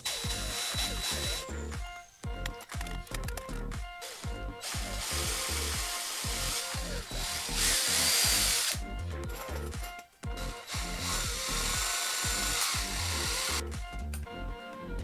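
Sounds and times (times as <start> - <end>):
power drill whirring: 0.0 - 13.9
background music with beat: 0.0 - 15.0.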